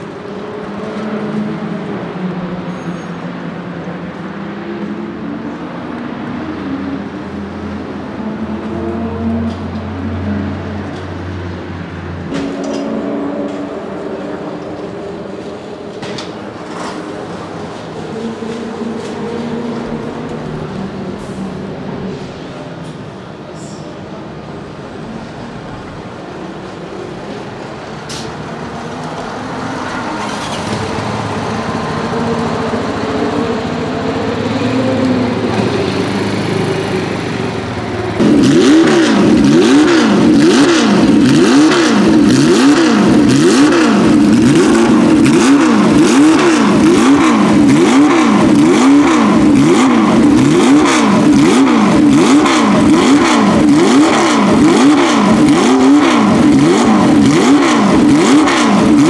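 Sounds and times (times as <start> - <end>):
racing engine revving: 3.6 - 22.5, 28.1 - 59.0.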